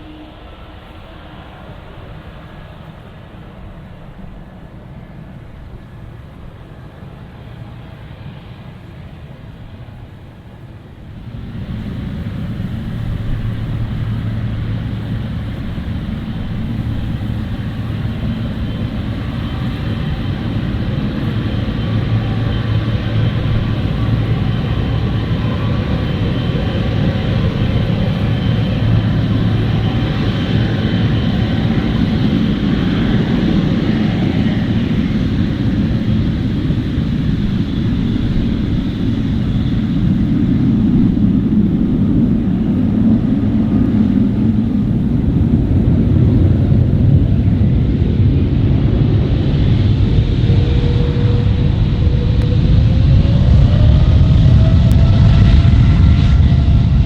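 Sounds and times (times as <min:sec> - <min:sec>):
jet engine whine: 0:00.0 - 0:57.0
jet engines at takeoff: 0:00.0 - 0:57.0.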